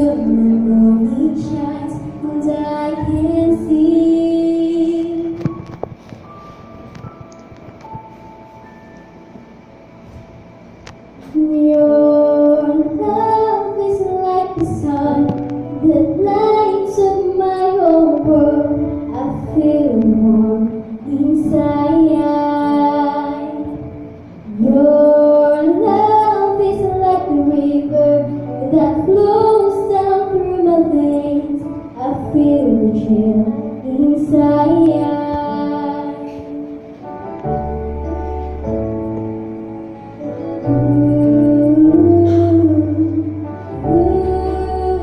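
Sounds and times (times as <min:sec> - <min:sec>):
girl singing into microphone: 0:00.0 - 0:06.0, 0:11.2 - 0:37.0, 0:40.4 - 0:45.0
karaoke backing track: 0:00.0 - 0:45.0.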